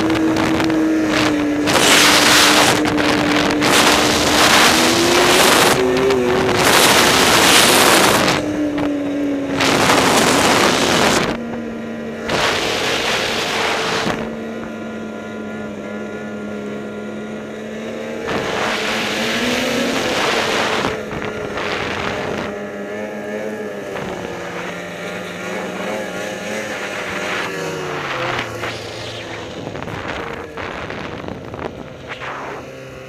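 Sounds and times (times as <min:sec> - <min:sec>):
wind noise on microphone: 0:00.0 - 0:14.8, 0:18.1 - 0:23.0, 0:23.6 - 0:33.0
snowmobile engine running: 0:00.0 - 0:33.0.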